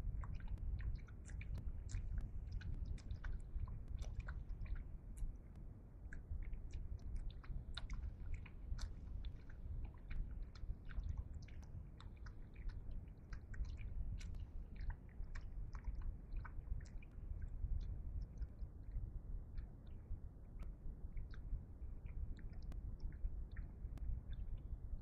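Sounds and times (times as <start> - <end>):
hyenas lapping water: 0.0 - 25.0.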